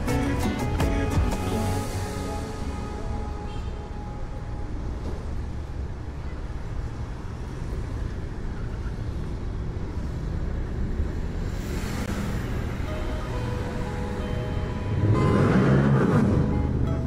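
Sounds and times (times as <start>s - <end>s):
car road and engine rumble: 0.0s - 17.0s
road hiss: 1.0s - 16.4s.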